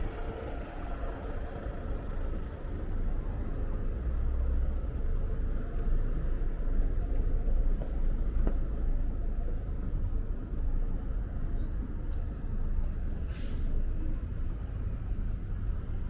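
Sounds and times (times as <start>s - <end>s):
street traffic rumble: 0.0s - 16.0s
vehicle engine running nearby: 0.0s - 16.0s.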